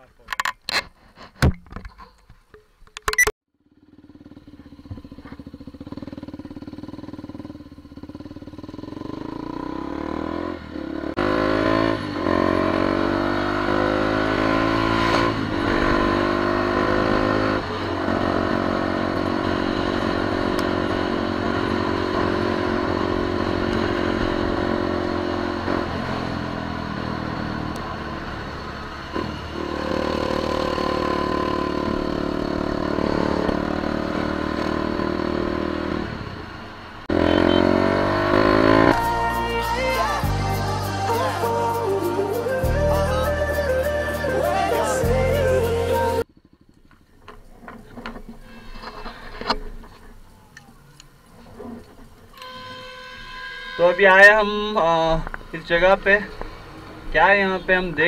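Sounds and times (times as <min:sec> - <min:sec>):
motorcycle engine accelerating: 0:03.5 - 0:50.8.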